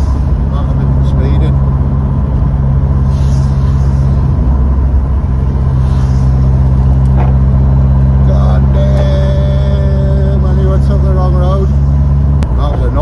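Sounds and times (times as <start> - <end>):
car engine cruising drone: 0.0 - 13.0
road noise: 0.0 - 13.0.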